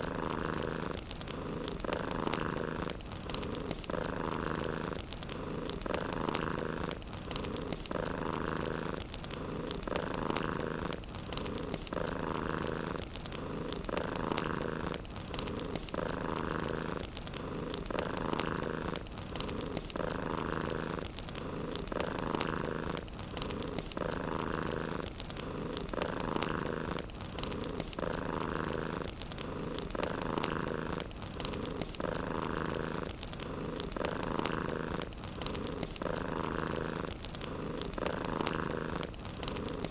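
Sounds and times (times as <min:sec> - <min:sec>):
cat purring: 0:00.0 - 0:39.9
wood fire crackling: 0:00.0 - 0:39.9.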